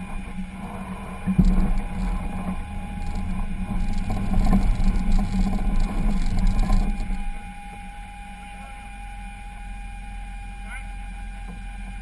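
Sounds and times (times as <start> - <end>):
vehicle engine under load: 0.0 - 10.4.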